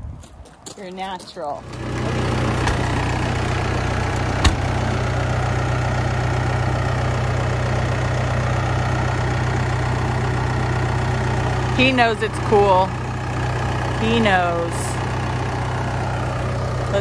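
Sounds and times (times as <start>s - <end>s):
tractor diesel engine idling: 0.8s - 17.0s.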